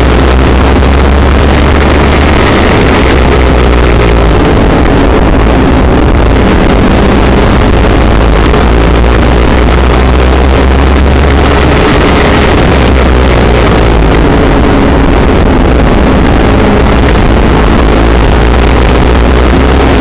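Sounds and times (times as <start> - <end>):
race car engine running hard: 0.0 - 20.0
wind noise on microphone: 0.0 - 20.0.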